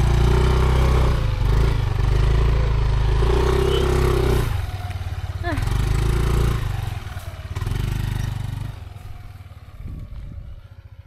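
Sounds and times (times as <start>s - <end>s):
motor scooter engine revving: 0.0s - 11.0s.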